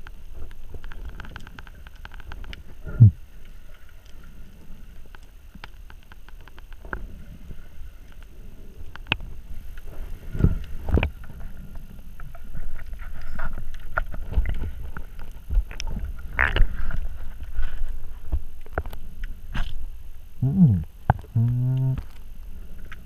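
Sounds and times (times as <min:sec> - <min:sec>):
muffled water rumble: 0:00.0 - 0:23.0.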